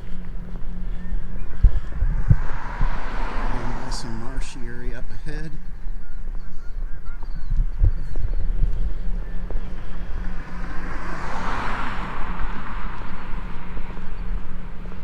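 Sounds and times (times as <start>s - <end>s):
vehicle passing by: 0.0s - 5.8s, 8.0s - 15.0s
wind rumbling on microphone: 0.0s - 15.0s.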